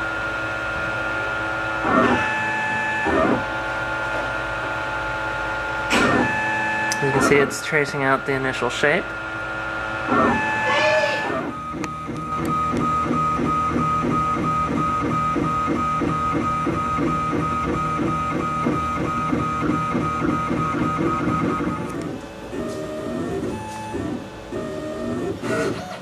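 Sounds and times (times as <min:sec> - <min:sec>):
stepper motors whining: 0:00.2 - 0:26.0.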